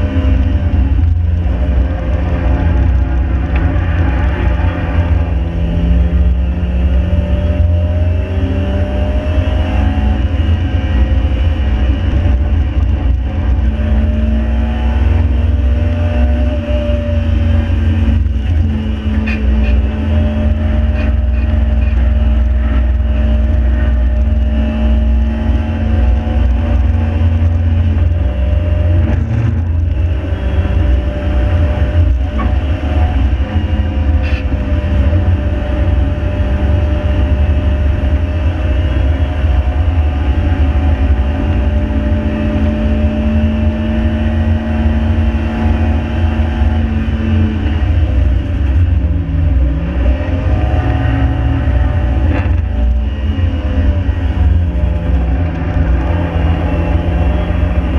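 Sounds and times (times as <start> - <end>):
car engine rumble from inside: 0.0 - 57.9.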